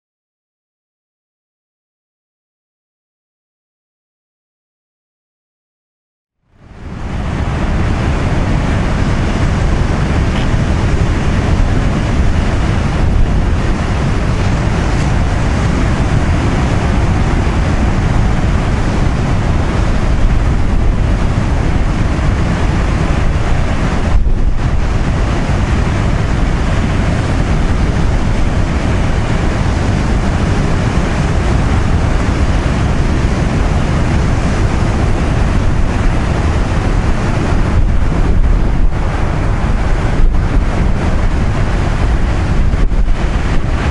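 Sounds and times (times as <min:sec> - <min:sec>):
surf breaking on rocky shore: 0:06.6 - 0:43.9
wind buffeting microphone: 0:06.6 - 0:43.9.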